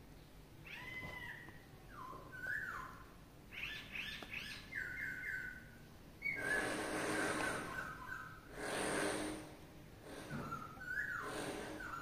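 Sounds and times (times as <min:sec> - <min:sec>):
bird whistling and chirping: 0:00.7 - 0:08.5, 0:10.2 - 0:12.0.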